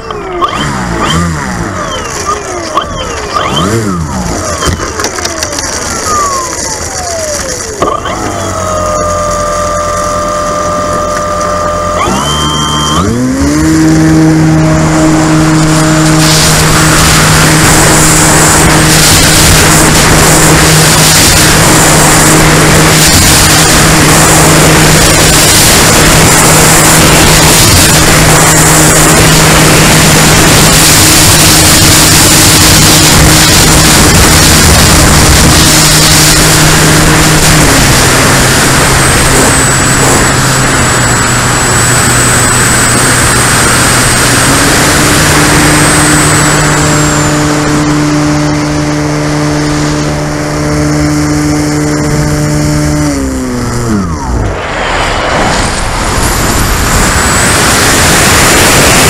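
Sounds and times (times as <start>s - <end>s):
model airplane motor and propeller: 0.0s - 54.6s, 55.6s - 59.0s
wind rush on microphone: 3.4s - 59.0s.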